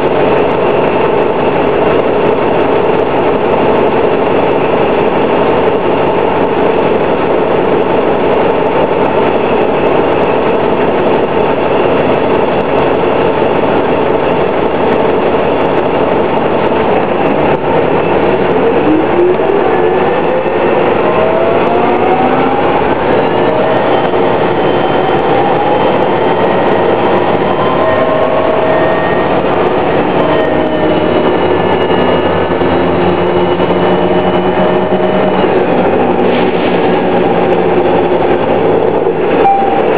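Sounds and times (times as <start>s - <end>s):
bus engine drone: 0.0s - 39.9s
rising transmission whine: 0.0s - 39.9s.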